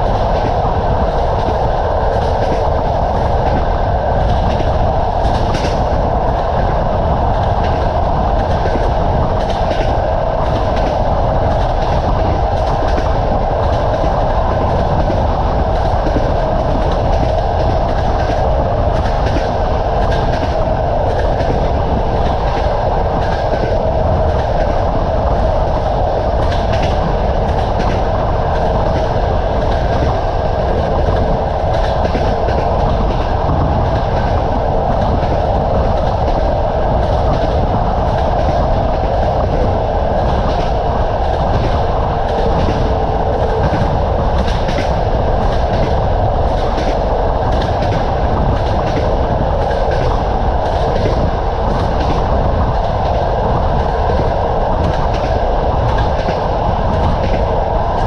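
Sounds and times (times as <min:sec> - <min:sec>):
rail joint clicks: 0:00.0 - 0:58.0
train wheels clattering on rails: 0:00.0 - 0:58.0.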